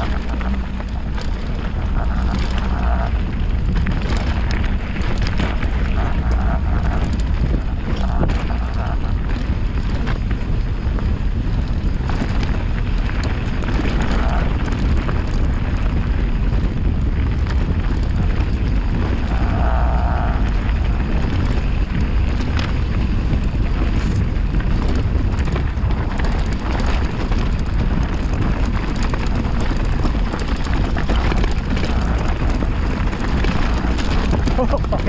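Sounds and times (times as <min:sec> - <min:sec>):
bike rattling: 0:00.0 - 0:35.0
tyres rolling over gravel: 0:00.0 - 0:35.0
wind buffeting microphone: 0:00.0 - 0:35.0.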